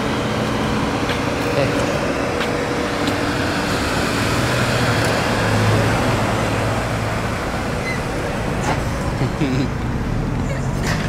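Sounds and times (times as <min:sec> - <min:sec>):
car engine humming past: 0:00.0 - 0:11.0.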